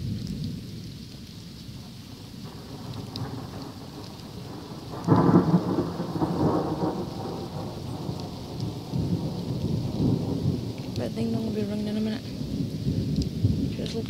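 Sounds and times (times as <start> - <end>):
steady rain falling: 0.0 - 14.0
thunder clap rumbling: 0.0 - 14.0.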